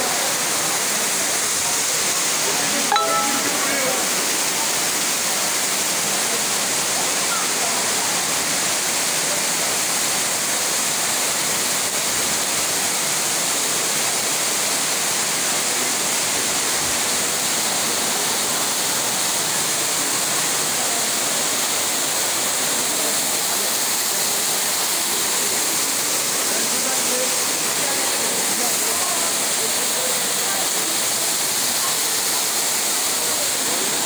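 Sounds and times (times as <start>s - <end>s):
waterfall pouring and splashing: 0.0s - 34.0s.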